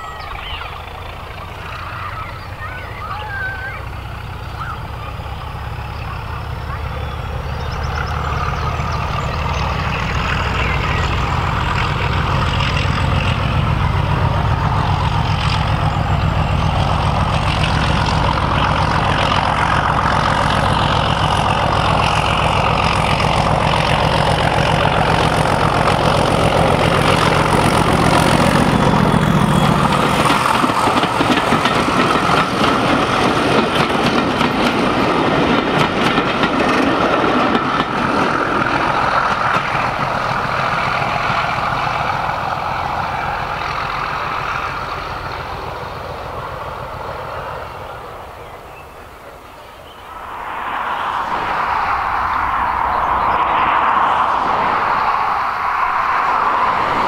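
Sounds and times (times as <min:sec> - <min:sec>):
diesel locomotive engine running: 0:00.0 - 0:57.0
train wheels on track: 0:00.0 - 0:57.0.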